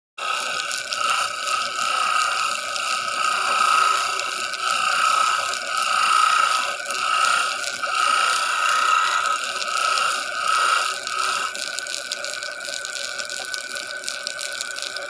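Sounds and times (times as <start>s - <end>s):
power tool whining on wood: 0.2s - 14.7s.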